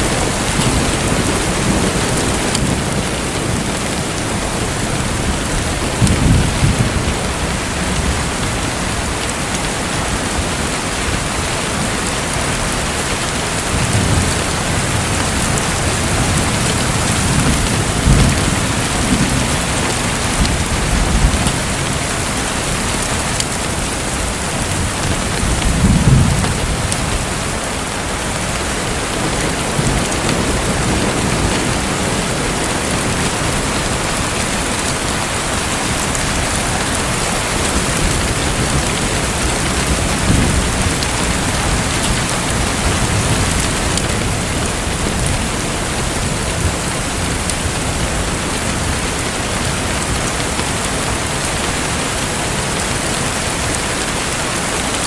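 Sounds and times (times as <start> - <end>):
hissing water like rain: 0.0 - 55.0.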